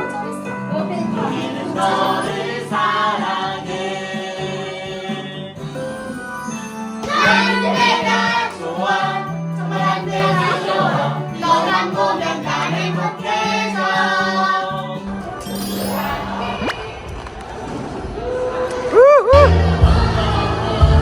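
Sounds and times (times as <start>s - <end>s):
instrumental accompaniment: 0.0s - 17.3s
choir singing: 0.7s - 5.9s, 7.0s - 21.0s.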